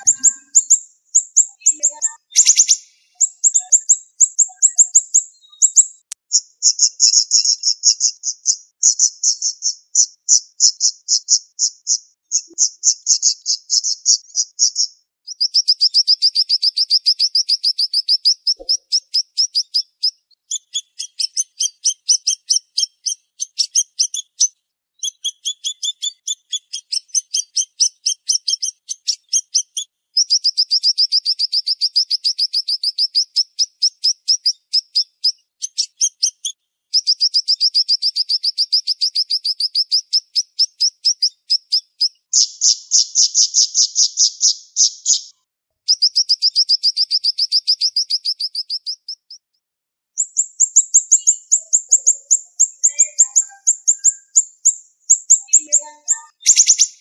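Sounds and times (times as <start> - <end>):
songbird chirping rapidly: 0.0 - 49.6, 50.2 - 57.0.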